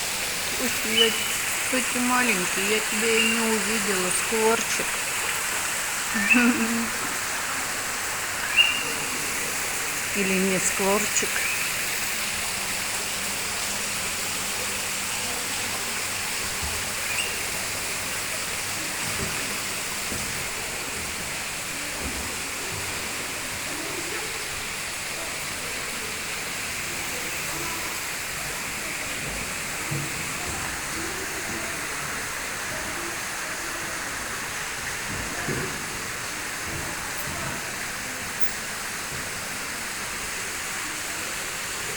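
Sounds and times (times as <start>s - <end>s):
running water rushing: 0.0s - 41.9s
faint voices: 0.4s - 12.2s, 13.2s - 41.9s.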